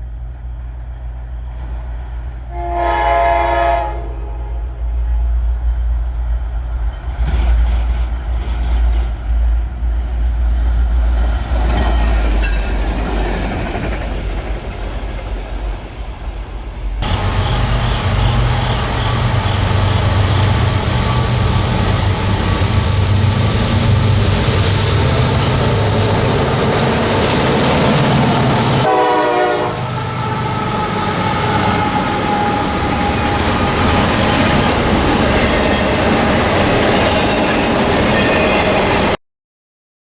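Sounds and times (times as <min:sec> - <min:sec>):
train rumbling on tracks: 0:00.0 - 0:39.2.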